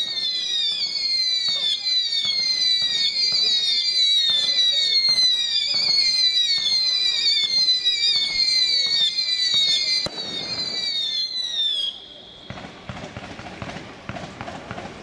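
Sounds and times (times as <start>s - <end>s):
firework whistles falling: 0.0s - 14.2s
firework bangs: 0.0s - 15.0s.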